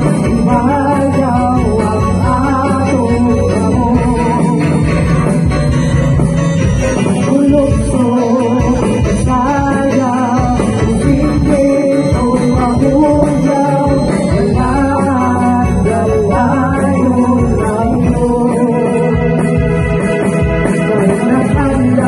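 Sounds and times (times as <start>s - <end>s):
amplified vocals: 0.0s - 6.0s, 6.8s - 22.0s
high ticking beat: 0.0s - 20.6s
electronic keyboard: 0.0s - 22.0s.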